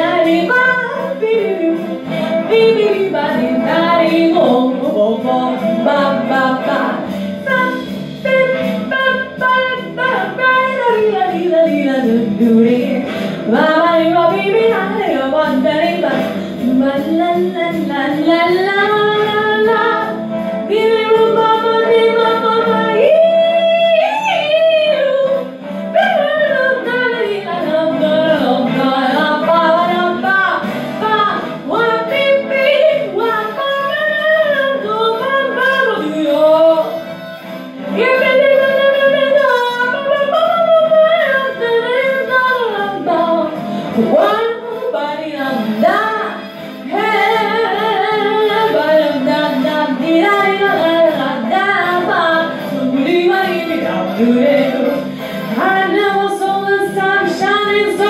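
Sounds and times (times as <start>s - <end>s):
backing track music: 0.0s - 58.0s.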